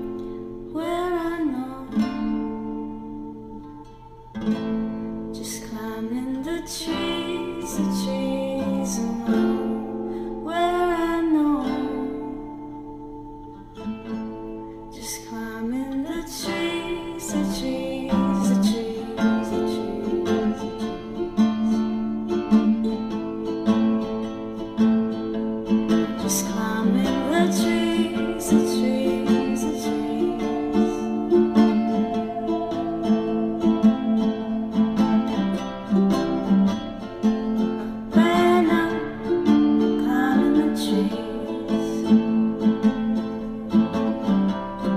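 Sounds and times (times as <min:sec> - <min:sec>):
person singing: 0:00.0 - 0:44.9
plucked acoustic guitar: 0:00.0 - 0:44.9.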